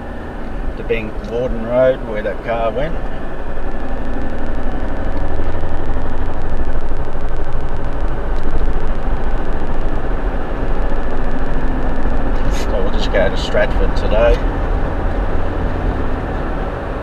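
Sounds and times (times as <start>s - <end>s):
engine and tyre rumble: 0.0s - 17.0s
road noise hiss: 0.0s - 17.0s.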